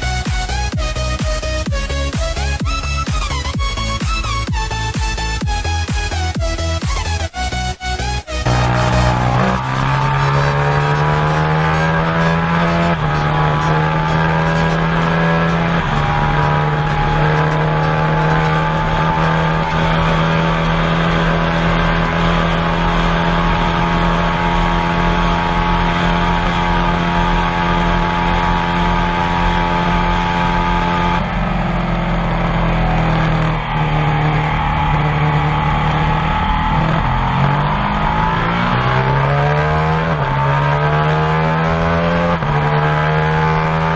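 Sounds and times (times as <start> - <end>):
motorbike engine at high revs: 0.0 - 43.9.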